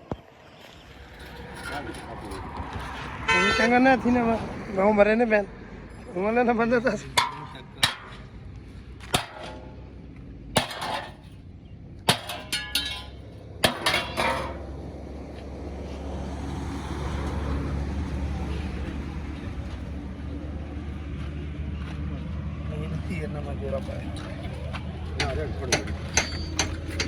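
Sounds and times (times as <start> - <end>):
vehicle engine running: 0.8 - 27.0.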